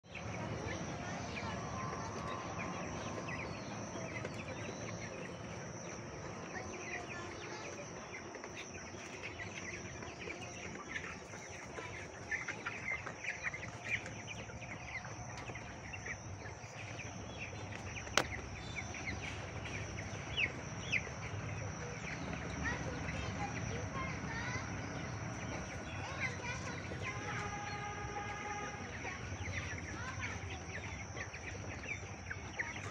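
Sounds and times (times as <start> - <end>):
chicks peeping: 0.0 - 32.9.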